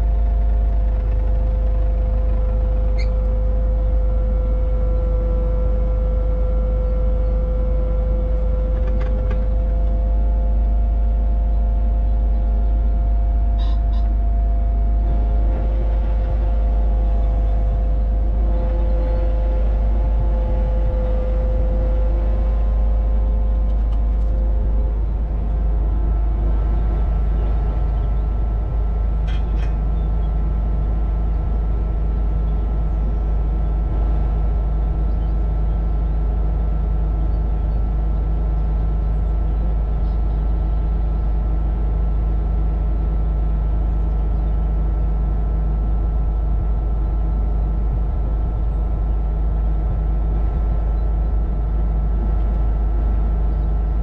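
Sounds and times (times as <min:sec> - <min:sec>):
excavator diesel engine running: 0:00.0 - 0:54.0
steady mechanical whine: 0:00.0 - 0:54.0.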